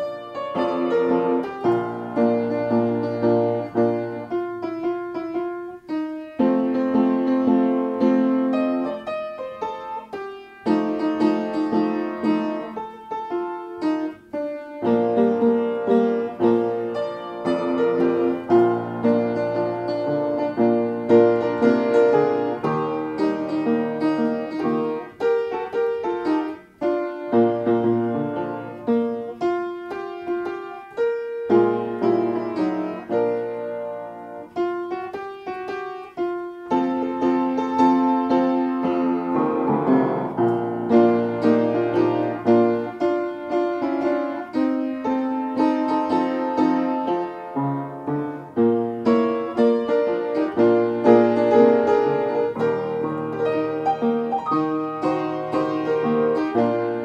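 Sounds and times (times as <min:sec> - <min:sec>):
piano playing a gospel hymn: 0:00.0 - 0:57.0.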